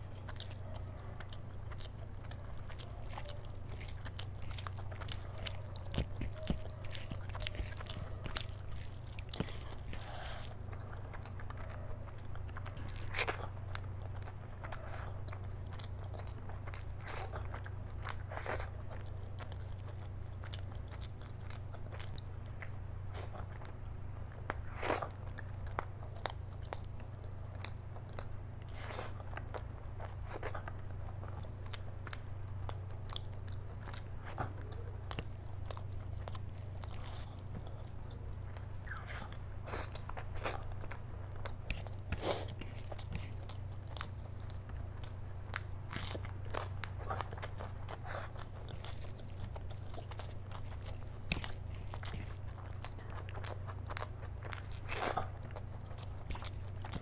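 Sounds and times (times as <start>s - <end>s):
steady low hum: 0.0s - 57.0s
wet chewing and mouth smacks: 0.0s - 57.0s.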